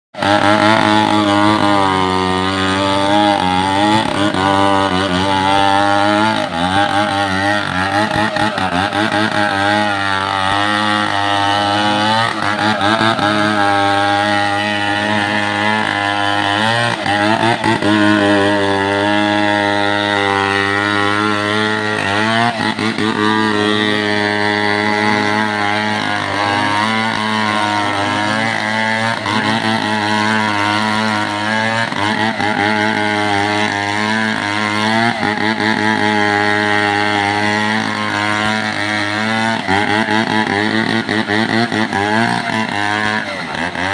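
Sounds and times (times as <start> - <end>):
chainsaw engine revving: 0.1 - 43.9.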